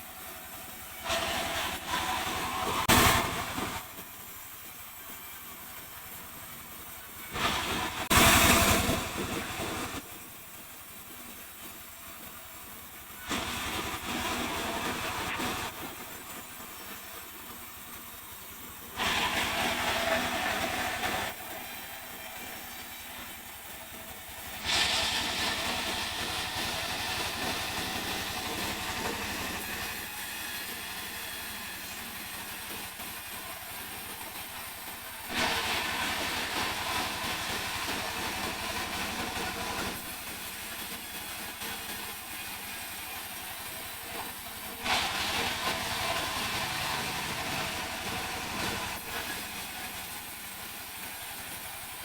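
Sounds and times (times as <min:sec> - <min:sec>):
harsh hissing saw cutting: 0:00.0 - 0:52.0.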